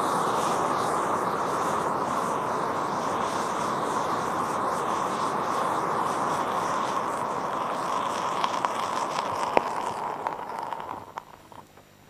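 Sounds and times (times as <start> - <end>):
flare crackling and popping: 0.0 - 11.7
hand flare hissing: 0.0 - 11.8.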